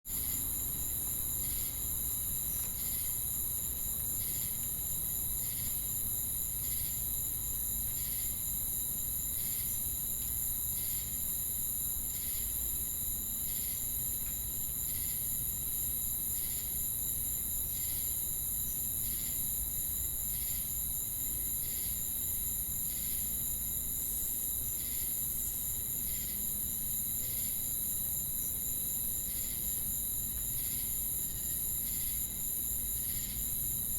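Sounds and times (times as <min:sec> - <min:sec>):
cricket chirping: 0:00.1 - 0:33.9
crickets trilling: 0:00.1 - 0:33.9.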